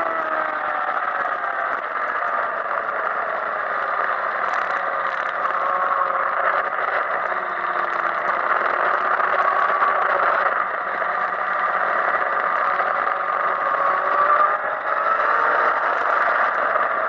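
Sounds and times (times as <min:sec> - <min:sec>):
motorcycle engine running at speed: 0:00.0 - 0:17.0.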